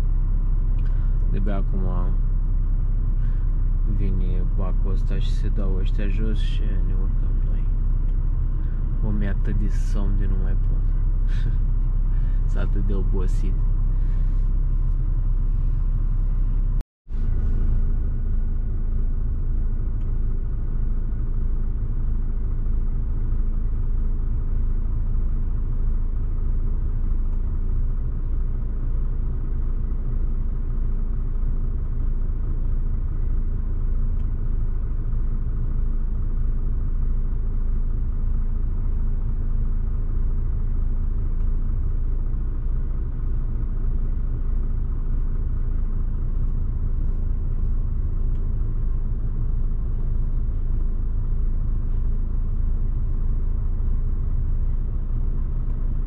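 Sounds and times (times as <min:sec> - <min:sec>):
diesel truck engine rumbling: 0:00.0 - 0:56.0.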